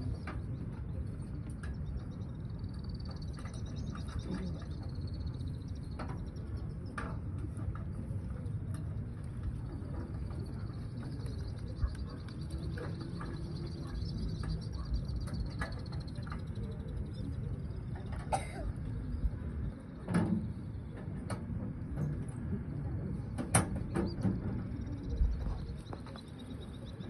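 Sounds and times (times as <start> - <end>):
crowd ambience low rumble: 0.0 - 27.0.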